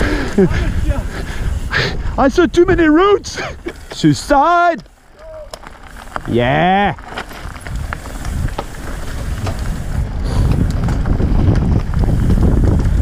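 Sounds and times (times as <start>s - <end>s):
wind rushing over microphone: 0.0s - 4.3s, 5.8s - 13.0s
bike clicks and rattles on gravel: 0.0s - 13.0s.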